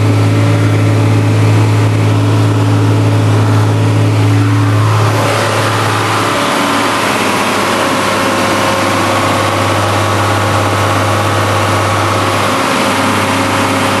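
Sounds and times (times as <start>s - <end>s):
tractor diesel engine drone: 0.0s - 14.0s.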